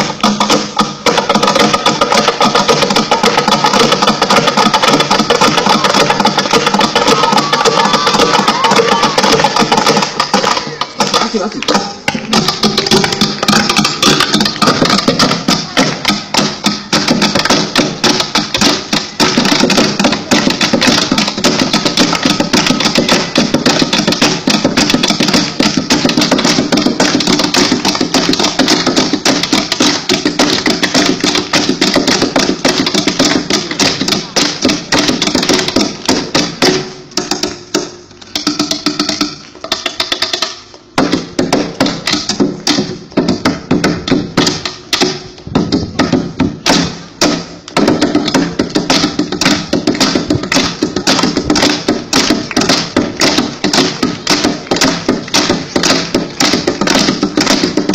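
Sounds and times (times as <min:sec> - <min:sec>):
music with fast percussive tapping: 0:00.0 - 0:57.9.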